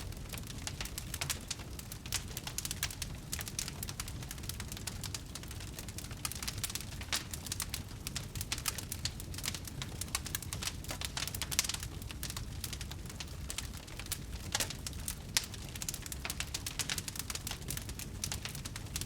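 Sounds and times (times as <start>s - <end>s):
low rumble of burning: 0.0s - 19.0s
wood fire crackling and popping: 0.0s - 19.0s.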